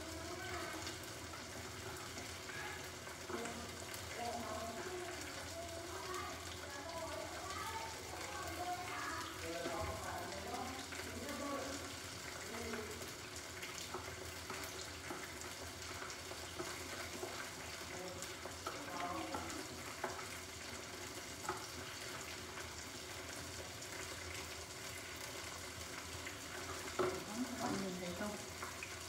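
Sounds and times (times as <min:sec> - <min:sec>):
meat frying with crackles: 0:00.0 - 0:29.0.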